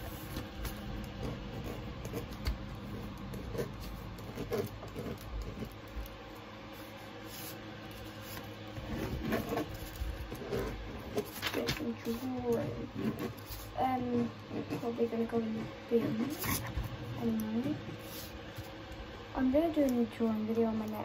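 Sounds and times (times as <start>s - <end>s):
faint steady hum: 0.0s - 21.0s
ballpoint pen scratching on paper: 0.2s - 6.1s, 6.8s - 18.3s.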